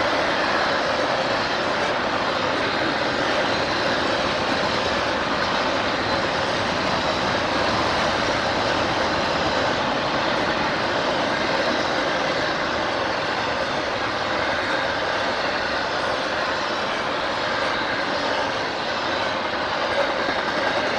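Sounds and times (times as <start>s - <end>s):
train wheels rushing on rails: 0.0s - 20.9s.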